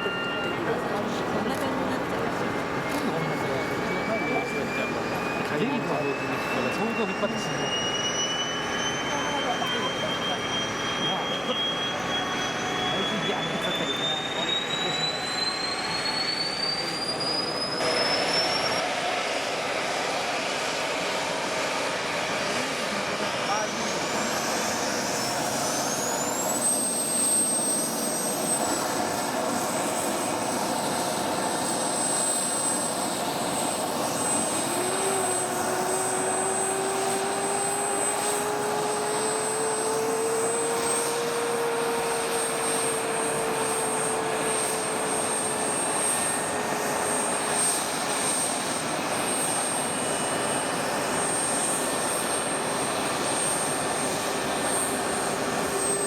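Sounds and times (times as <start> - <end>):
high jet engine whine: 0.0 - 56.0
jet engine rushing roar: 0.0 - 56.0.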